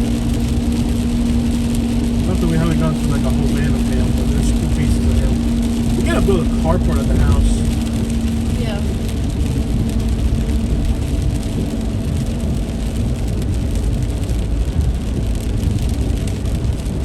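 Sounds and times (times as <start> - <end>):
car rumble and tyres on wet road: 0.0 - 17.0
heavy rain on car: 0.0 - 17.0.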